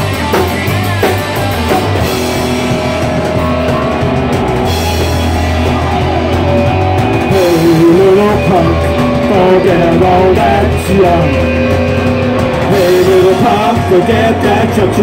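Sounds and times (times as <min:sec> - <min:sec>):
drum kit: 0:00.0 - 0:15.0
electric bass guitar: 0:00.0 - 0:15.0
electric guitar: 0:00.0 - 0:15.0.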